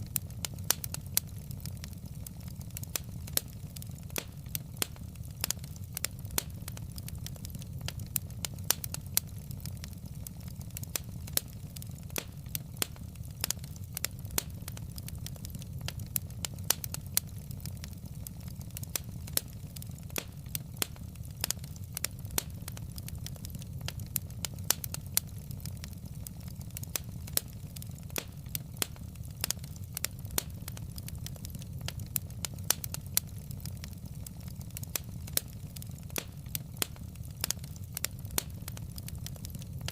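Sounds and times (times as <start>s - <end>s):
low rumble of flames: 0.0s - 39.9s.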